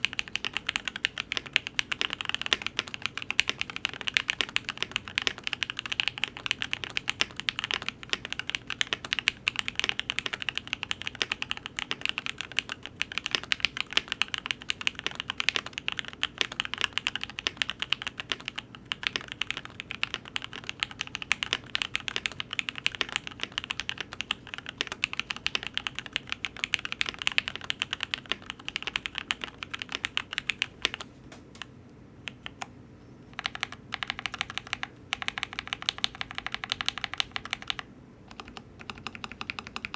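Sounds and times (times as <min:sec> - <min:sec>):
typing on mechanical keyboard: 0:00.0 - 0:31.7, 0:33.4 - 0:39.9.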